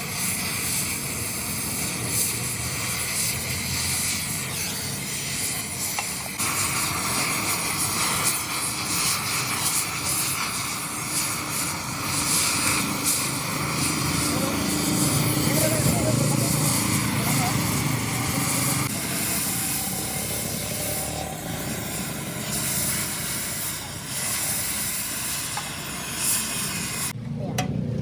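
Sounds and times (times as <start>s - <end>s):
machine noise with strong hiss: 0.0s - 27.2s.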